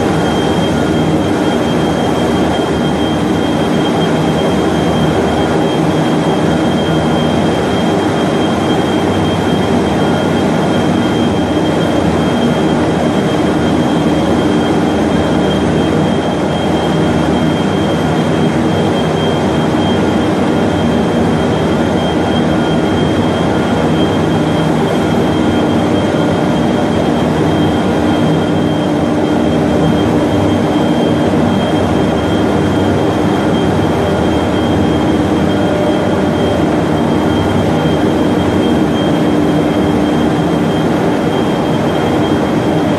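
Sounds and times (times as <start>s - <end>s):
high-pitched machine whine: 0.0s - 42.9s.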